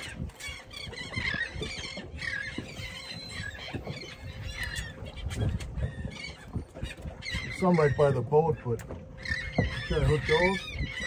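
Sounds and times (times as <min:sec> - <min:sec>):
birds squealing chirps: 0:00.0 - 0:11.0.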